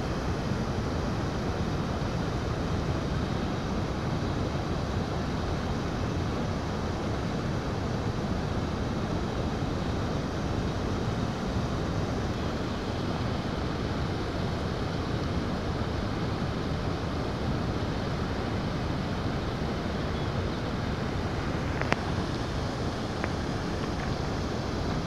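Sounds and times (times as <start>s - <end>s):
flowing river: 0.0s - 25.0s.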